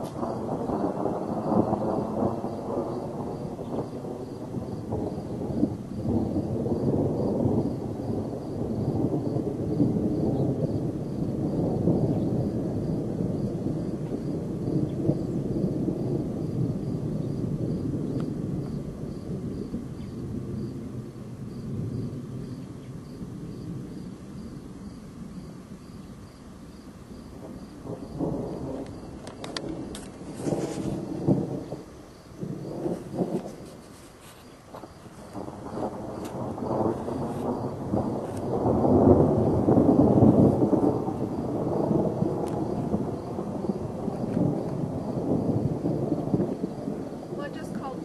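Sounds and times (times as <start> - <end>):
rolling thunder rumble: 0.0 - 48.0.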